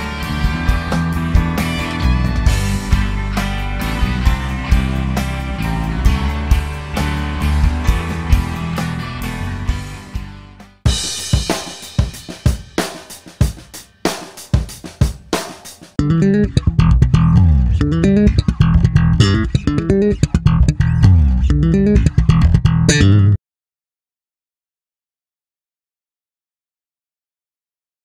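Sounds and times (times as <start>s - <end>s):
driving bass guitar with drums: 0.0s - 23.4s.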